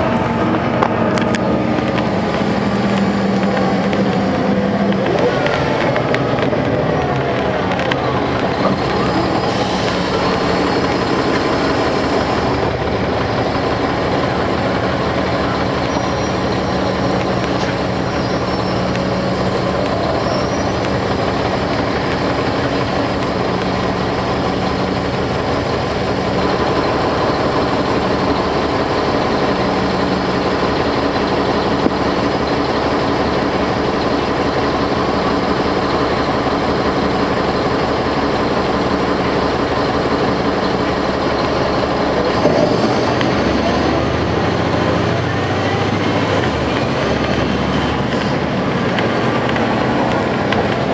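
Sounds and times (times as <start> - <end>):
diesel bus engine idling: 0.0 - 50.9.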